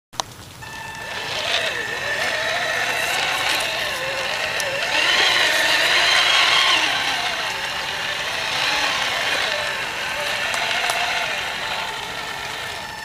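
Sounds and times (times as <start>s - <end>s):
electric motor and gearbox whining: 0.6s - 13.0s.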